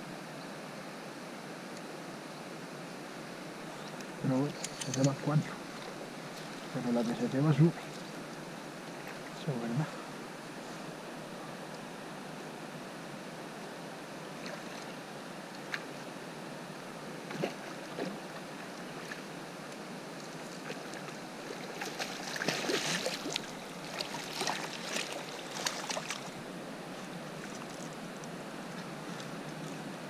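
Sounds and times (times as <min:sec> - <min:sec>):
river rushing: 0:00.1 - 0:30.0.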